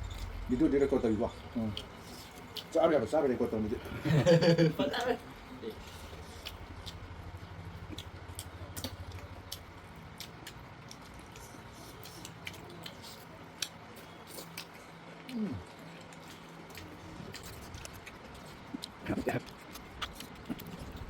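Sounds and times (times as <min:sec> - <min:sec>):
low steady hum: 0:00.0 - 0:21.0
chewing noises: 0:01.4 - 0:03.2, 0:04.9 - 0:21.0.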